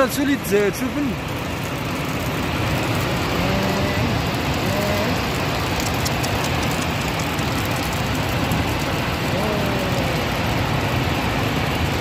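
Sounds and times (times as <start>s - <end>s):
flood water rushing: 0.0s - 12.0s.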